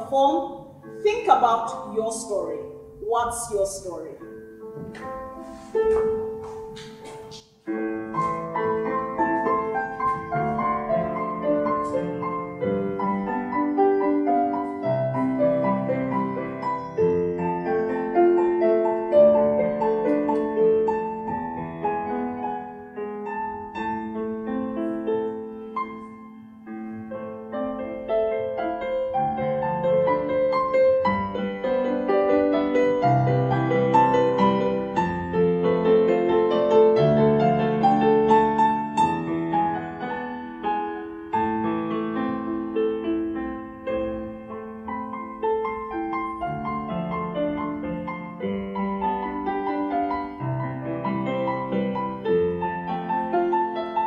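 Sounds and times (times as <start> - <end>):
digital piano playing chords: 0.0 - 54.0.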